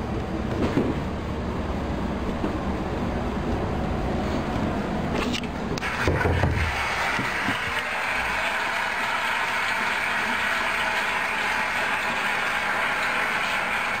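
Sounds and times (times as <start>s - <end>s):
steady mechanical noise: 0.0s - 14.0s.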